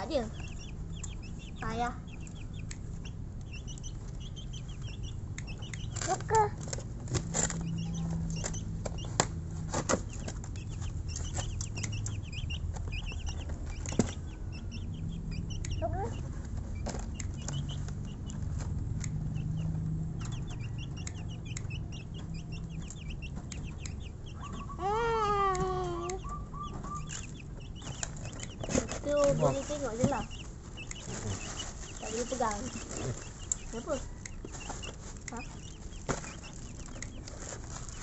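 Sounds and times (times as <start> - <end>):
chicks peeping: 0.0 - 38.0.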